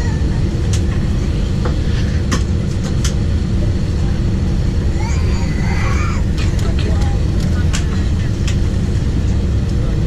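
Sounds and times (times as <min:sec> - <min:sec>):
aircraft cabin low rumble: 0:00.0 - 0:10.0.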